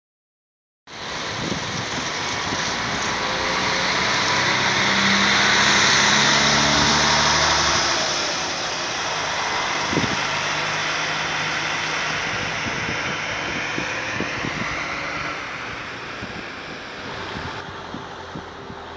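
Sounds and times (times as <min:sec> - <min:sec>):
vehicle engine humming: 0:00.9 - 0:18.9.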